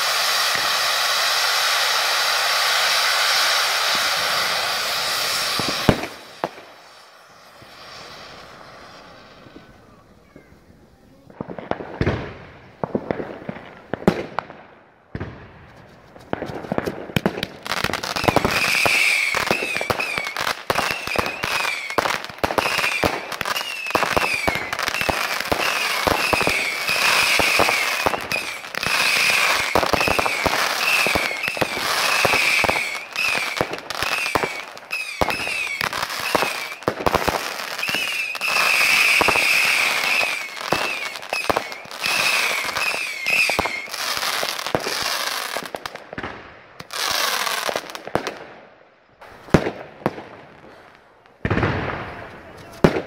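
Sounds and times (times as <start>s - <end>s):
fireworks whistling: 0.0s - 14.3s, 15.7s - 48.4s, 49.2s - 53.0s
fireworks bangs and crackles: 0.0s - 53.0s.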